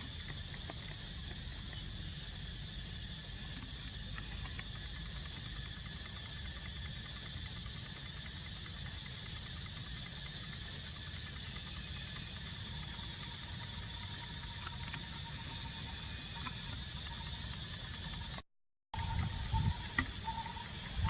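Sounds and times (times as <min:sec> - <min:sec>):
high insect drone: 0:00.0 - 0:18.4, 0:19.0 - 0:21.0.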